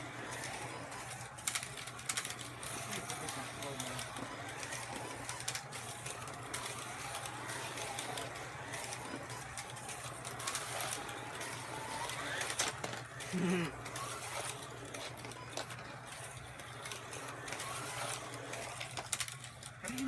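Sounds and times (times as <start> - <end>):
slot car motors whining: 0.0 - 20.0.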